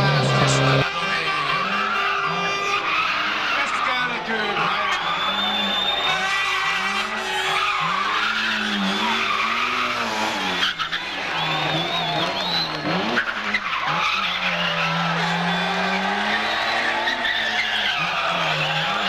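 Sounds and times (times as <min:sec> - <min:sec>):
car engine revving: 0:00.0 - 0:19.0
tyres skidding: 0:00.0 - 0:19.0.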